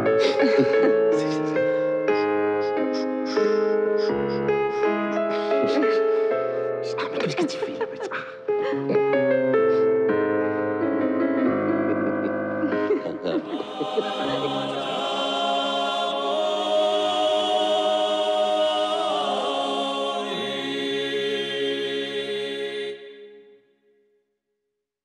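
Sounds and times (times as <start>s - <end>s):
choir singing held chords: 0.0s - 9.7s, 11.4s - 23.5s.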